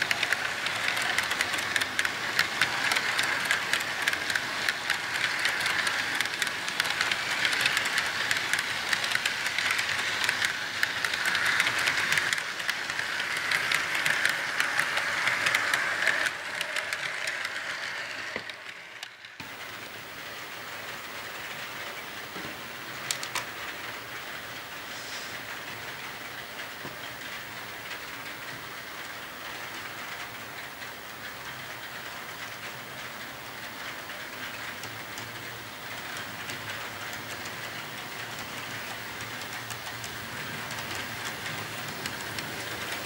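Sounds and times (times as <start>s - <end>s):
model train wheels clicking: 0.0s - 43.0s
rolling hiss: 0.0s - 43.0s.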